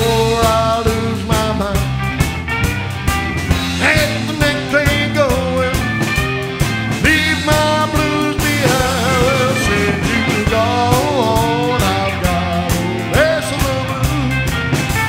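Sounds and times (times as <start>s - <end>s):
electric guitar lead: 0.0s - 15.0s
rock band playing live: 0.0s - 15.0s.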